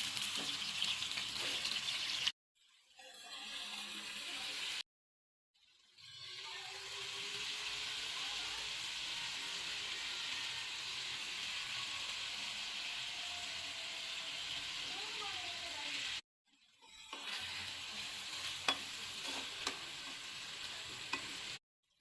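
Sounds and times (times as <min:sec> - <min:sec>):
food sizzling in oil: 0:00.0 - 0:02.3, 0:03.0 - 0:04.8, 0:05.8 - 0:16.2, 0:16.9 - 0:21.6.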